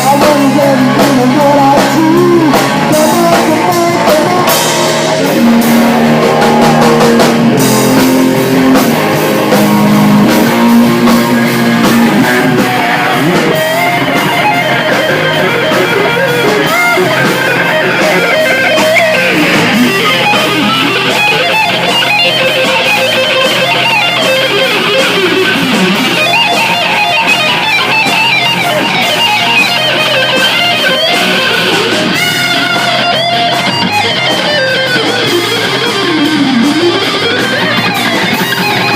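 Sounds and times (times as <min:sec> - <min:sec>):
bass: 0:00.0 - 0:38.9
drums: 0:00.0 - 0:38.9
electric guitar lines: 0:00.0 - 0:38.9.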